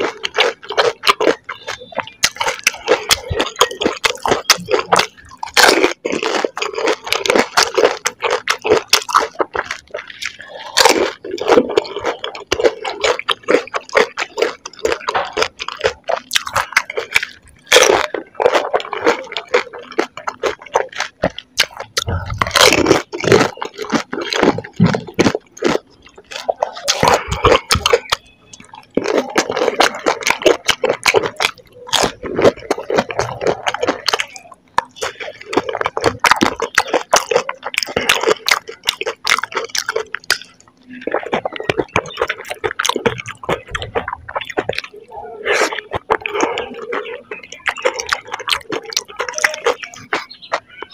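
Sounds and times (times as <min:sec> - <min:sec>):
wet chewing and squishing: 0:00.0 - 0:50.9.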